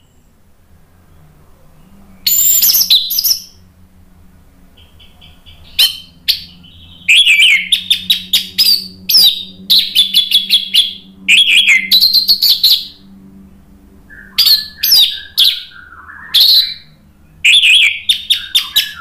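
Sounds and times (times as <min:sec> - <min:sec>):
thrush singing: 0:00.0 - 0:19.0.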